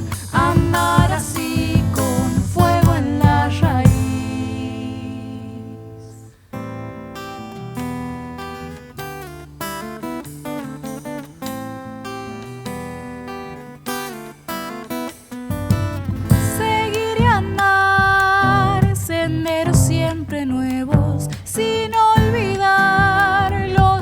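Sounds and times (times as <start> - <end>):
acoustic guitar picking and strumming: 0.0 - 24.0.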